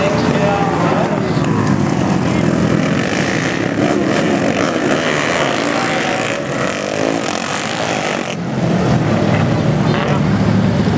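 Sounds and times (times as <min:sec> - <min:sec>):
racing motorcycle engines: 0:00.0 - 0:10.9.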